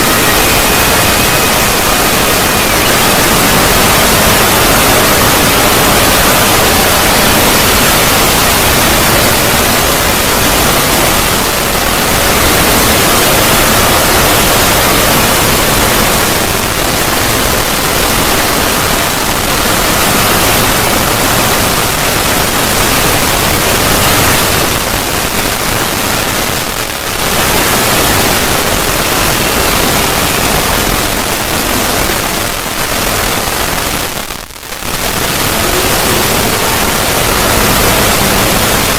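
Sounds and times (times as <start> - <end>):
static-like hiss: 0.0 - 38.9.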